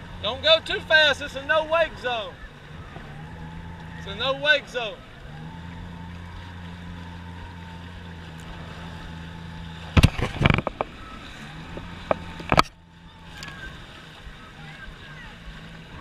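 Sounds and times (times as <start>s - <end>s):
jet ski engine humming: 0.0s - 16.0s.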